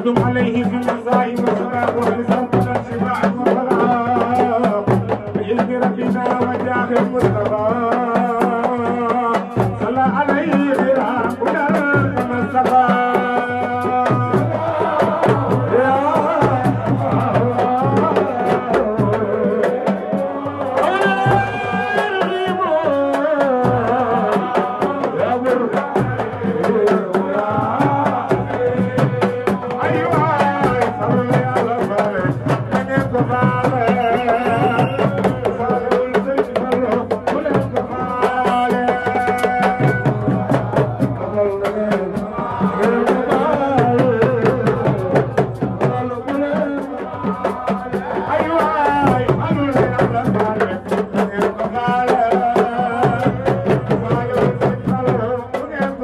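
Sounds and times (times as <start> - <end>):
repeating drum beat: 0.0 - 56.0
voices singing a chant: 0.0 - 56.0.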